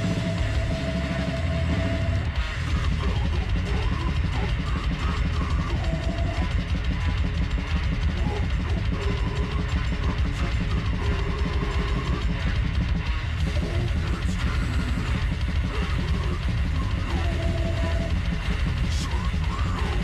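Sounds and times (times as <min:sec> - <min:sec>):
death metal music: 0:00.0 - 0:20.0
fast dense drumming: 0:00.0 - 0:20.0.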